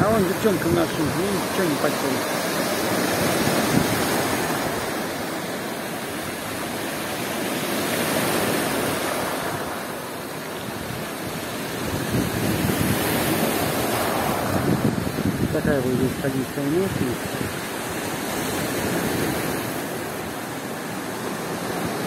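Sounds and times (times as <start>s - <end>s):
waves breaking on pebble shore: 0.0s - 22.0s.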